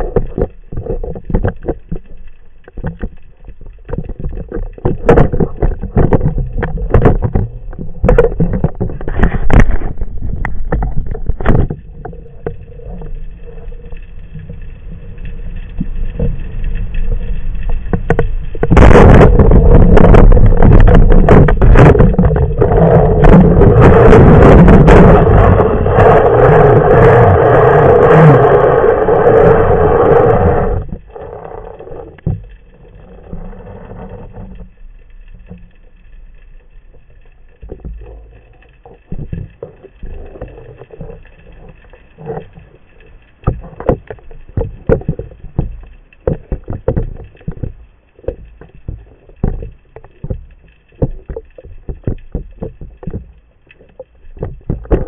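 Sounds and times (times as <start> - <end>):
underwater water rush: 0.0 - 55.0.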